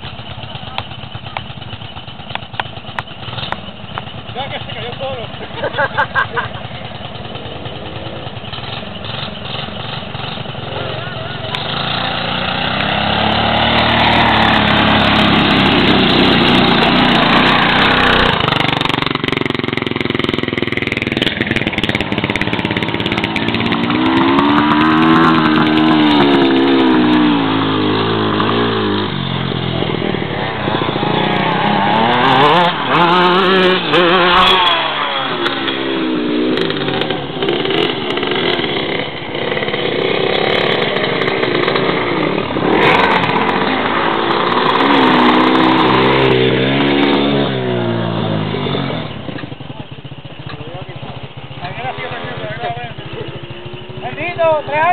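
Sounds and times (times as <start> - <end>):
quad bike engines revving: 0.0 - 54.9.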